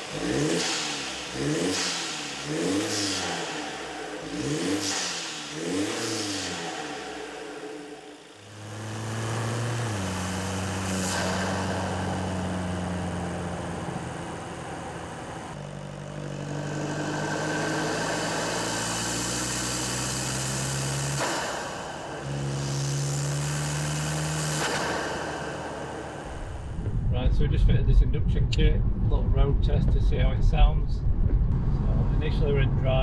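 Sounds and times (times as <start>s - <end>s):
diesel car engine running: 0.0s - 33.0s.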